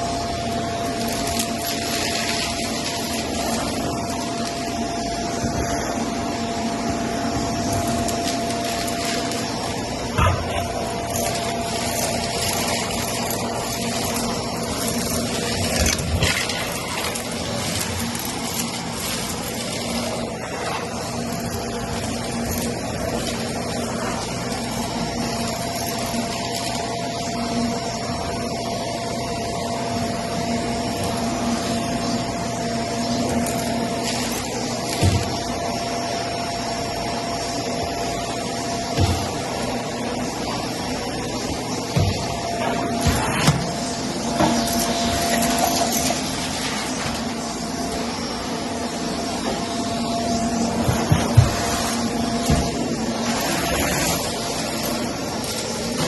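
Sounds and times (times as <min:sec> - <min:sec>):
vacuum cleaner running over carpet: 0:00.0 - 0:56.0.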